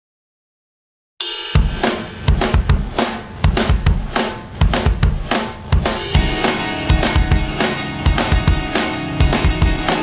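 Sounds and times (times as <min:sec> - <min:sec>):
music with loud drum beat: 0:01.2 - 0:10.0.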